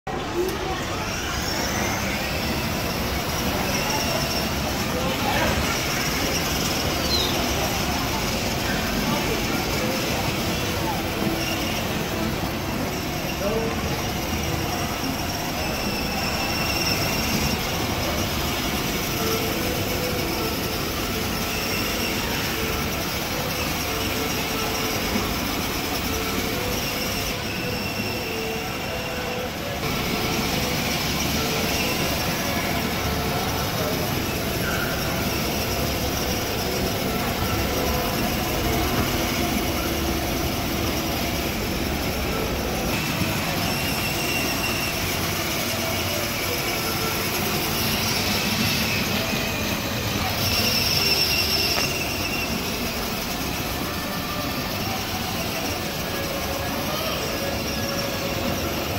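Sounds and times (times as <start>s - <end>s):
electric toy motors whining: 0.1s - 58.9s.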